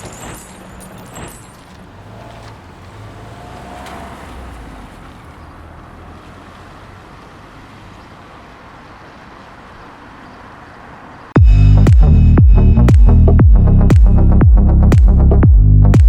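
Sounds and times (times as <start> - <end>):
street traffic noise: 0.0 - 15.9.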